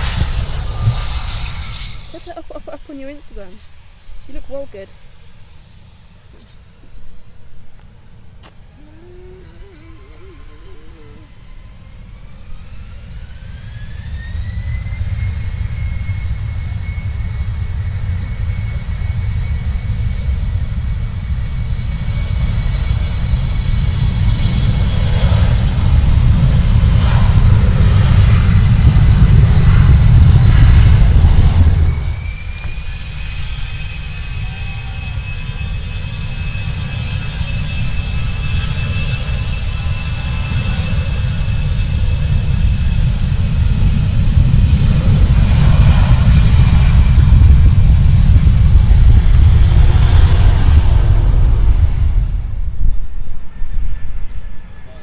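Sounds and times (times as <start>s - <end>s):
low engine rumble: 0.0s - 14.8s, 24.2s - 55.0s
jet engine whine: 0.0s - 55.0s.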